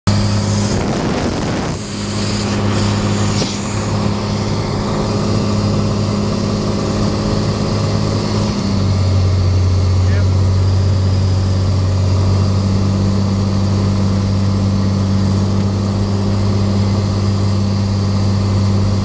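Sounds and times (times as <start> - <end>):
airplane engine droning in cabin: 0.1 - 19.0.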